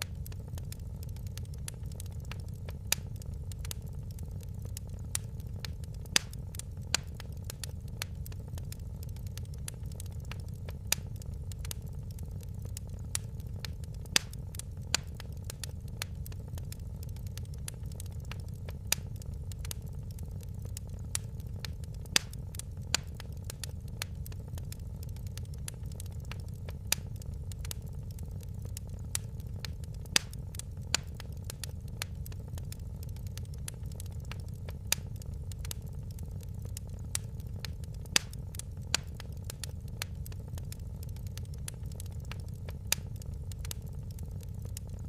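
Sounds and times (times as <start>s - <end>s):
fireplace fire crackling: 0.0s - 45.0s
low rumble of flames: 0.0s - 45.0s.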